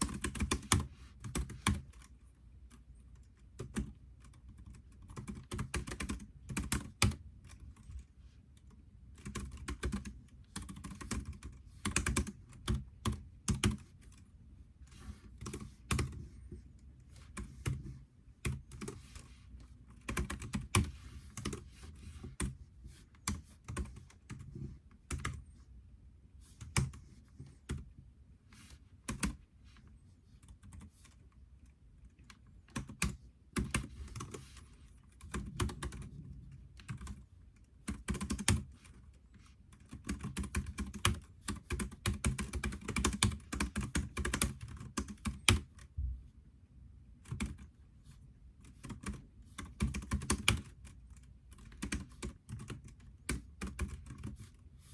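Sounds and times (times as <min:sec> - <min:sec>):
computer keyboard typing: 0:00.0 - 0:08.0, 0:08.6 - 0:14.3, 0:15.2 - 0:16.3, 0:17.1 - 0:22.6, 0:23.2 - 0:25.4, 0:26.6 - 0:27.0, 0:27.6 - 0:27.9, 0:29.1 - 0:29.4, 0:30.4 - 0:31.2, 0:32.1 - 0:45.9, 0:47.2 - 0:47.7, 0:48.6 - 0:54.6.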